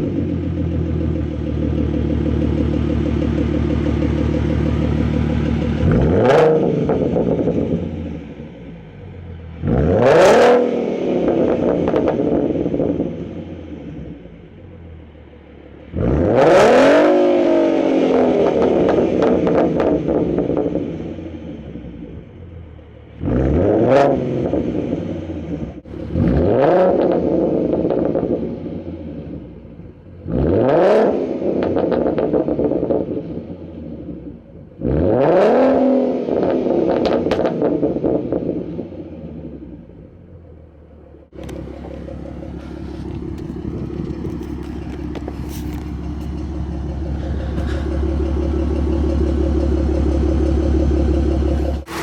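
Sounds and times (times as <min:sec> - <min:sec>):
low engine rumble: 0:00.0 - 0:30.4, 0:37.9 - 0:52.0
car engine revving: 0:00.0 - 0:52.0.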